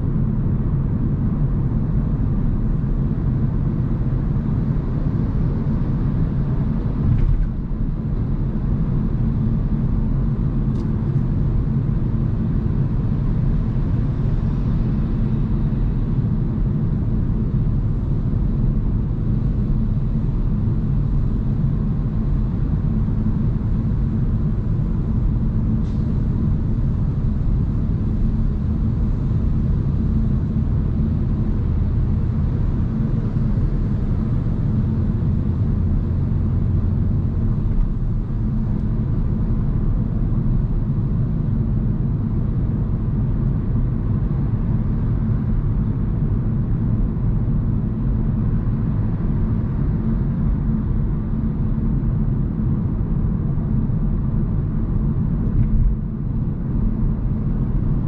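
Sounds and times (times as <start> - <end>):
road and tyre rumble: 0.0 - 58.0.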